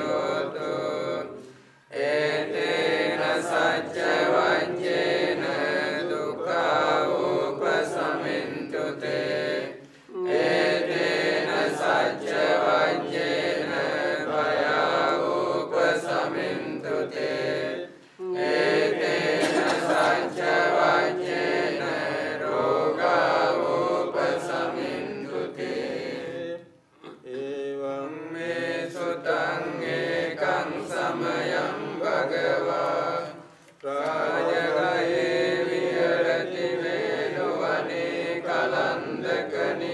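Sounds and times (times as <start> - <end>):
monks chanting in unison: 0.0 - 39.9.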